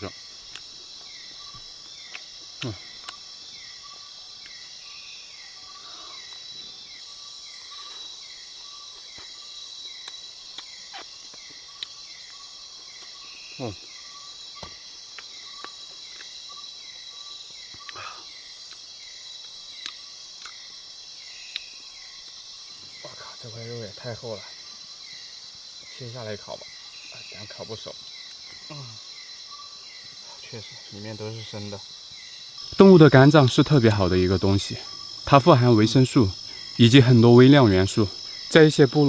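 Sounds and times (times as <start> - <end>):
insect chirps: 0.0 - 39.0
insects trilling: 0.0 - 39.0.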